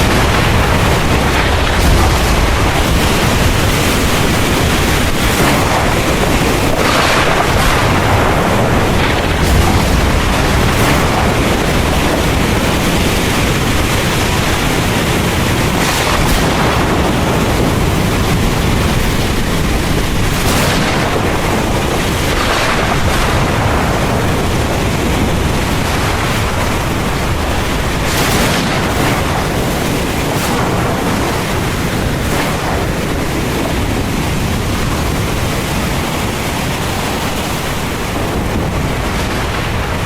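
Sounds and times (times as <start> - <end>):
deep thunder rumble: 0.0 - 40.0
heavy rain falling: 0.0 - 40.0.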